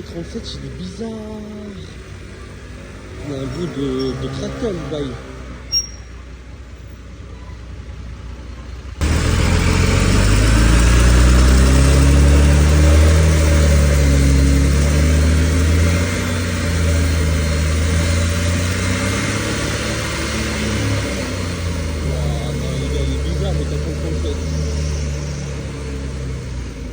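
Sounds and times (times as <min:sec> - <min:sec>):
bus engine running rough: 0:00.0 - 0:26.9.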